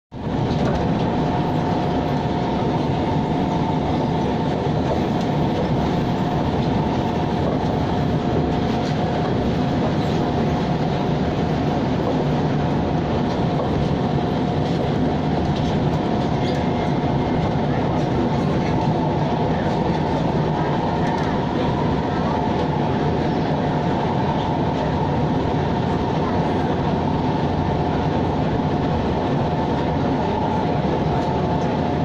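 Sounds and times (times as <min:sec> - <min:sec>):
high train whine: 0:00.1 - 0:32.0
train wheels rumbling on rails: 0:00.1 - 0:32.0.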